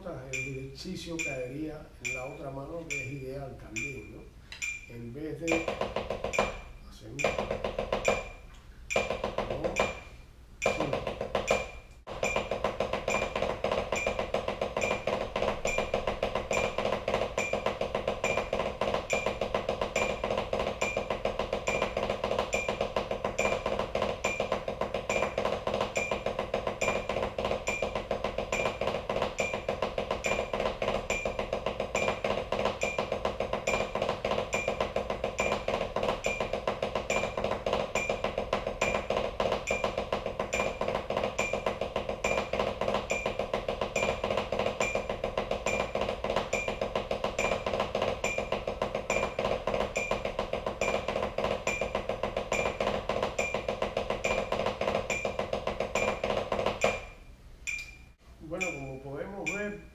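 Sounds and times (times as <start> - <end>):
drumsticks on practice pad: 0.0 - 59.9.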